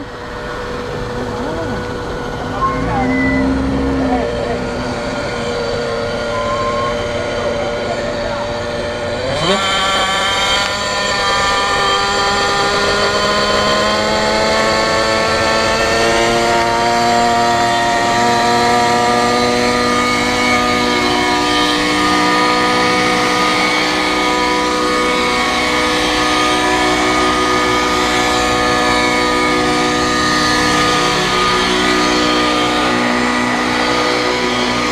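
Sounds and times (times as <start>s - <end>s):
engine starting and revving: 0.0s - 34.9s.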